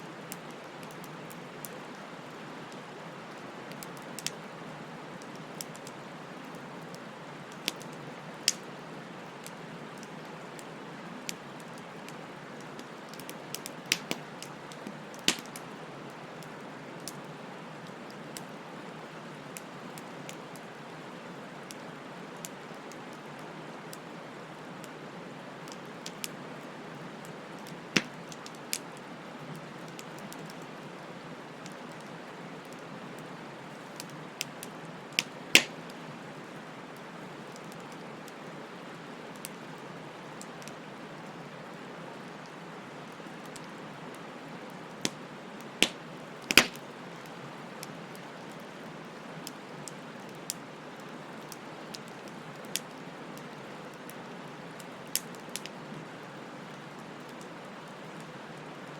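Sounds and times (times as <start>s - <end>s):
bonfire crackling and popping: 0.2s - 4.5s, 5.1s - 36.4s, 42.2s - 55.9s.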